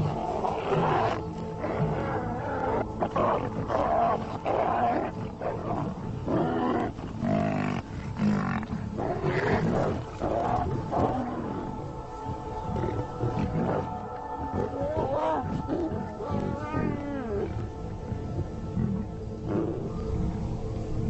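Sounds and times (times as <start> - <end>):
buffalo bellowing: 0.0 - 11.8, 12.4 - 20.4
lion growling and roaring: 0.0 - 20.9.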